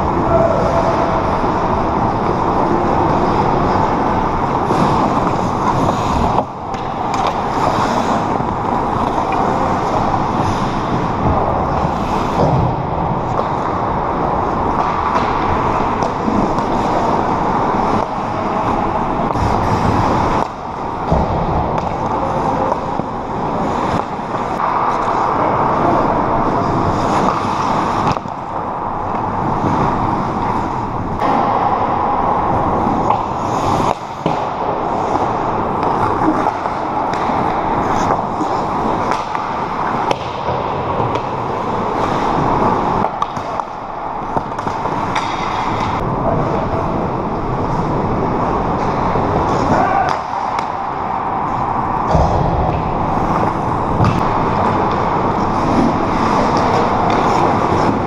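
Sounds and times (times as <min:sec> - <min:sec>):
loud rink noise: 0:00.0 - 0:58.0
skates scraping ice: 0:00.0 - 0:58.0
hockey sticks and puck knocking: 0:02.1 - 0:12.7, 0:13.3 - 0:25.3, 0:26.9 - 0:30.6, 0:32.6 - 0:46.1, 0:48.7 - 0:58.0.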